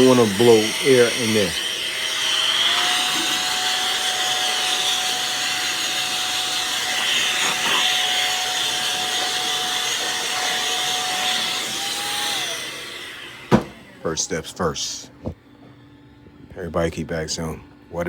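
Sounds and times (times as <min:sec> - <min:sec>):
small vacuum cleaner whining: 0:00.0 - 0:16.2.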